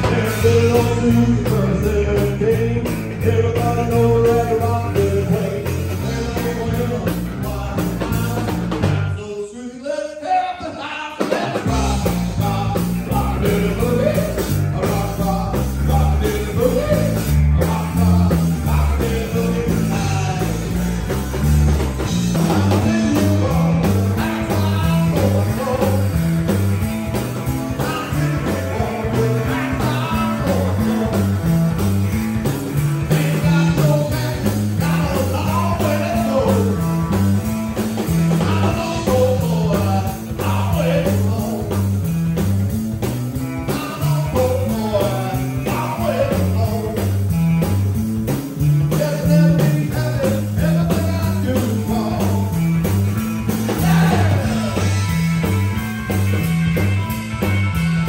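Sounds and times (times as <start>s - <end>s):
man singing: 0.0s - 21.4s, 22.0s - 31.8s, 32.8s - 42.0s, 43.4s - 47.4s, 48.6s - 52.8s, 53.5s - 55.2s
rockabilly band playing live: 0.0s - 58.0s.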